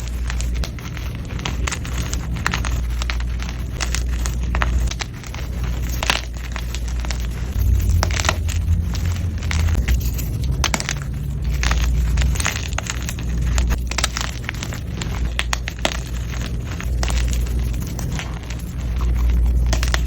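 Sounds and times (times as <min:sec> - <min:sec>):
chalk being crushed: 0:00.0 - 0:20.0
constant low rumble: 0:00.0 - 0:20.0.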